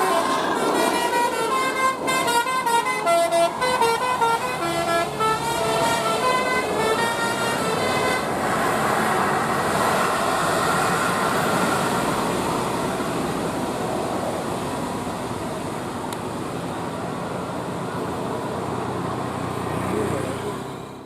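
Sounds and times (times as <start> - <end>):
bus diesel engine rumble: 0.0 - 21.0.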